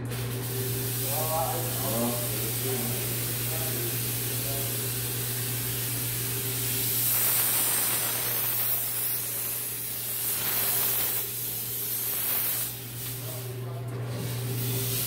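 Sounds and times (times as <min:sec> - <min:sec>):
fogger spraying hiss: 0:00.0 - 0:13.6, 0:14.2 - 0:15.0.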